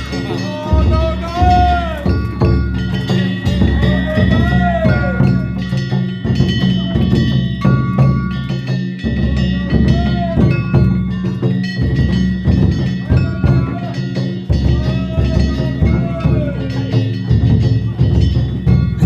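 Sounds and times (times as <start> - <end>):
hand gongs clanging: 0.0 - 19.0
taiko drum beating: 0.0 - 19.0.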